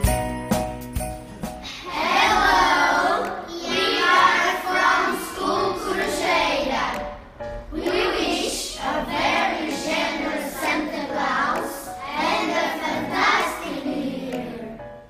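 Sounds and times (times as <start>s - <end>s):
children singing in chorus: 1.8s - 14.8s.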